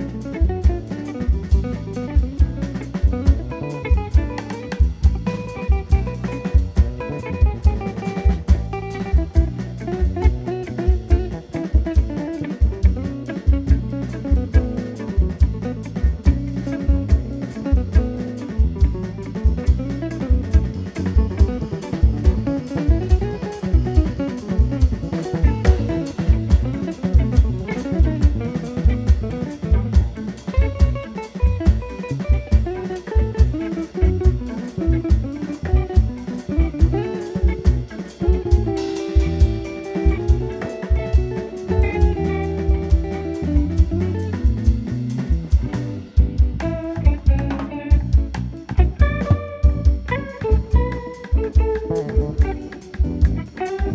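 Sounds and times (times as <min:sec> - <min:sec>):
double bass: 0:00.0 - 0:53.9
drum kit steady beat: 0:00.0 - 0:53.9
guitar line: 0:00.0 - 0:53.9.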